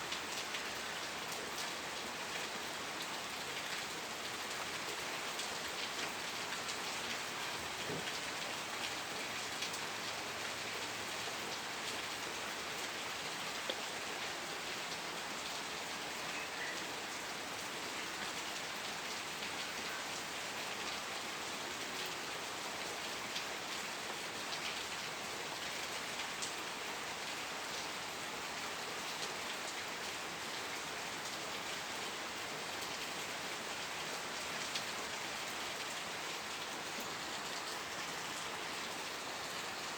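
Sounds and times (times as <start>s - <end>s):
rain patter on a surface: 0.0s - 39.9s.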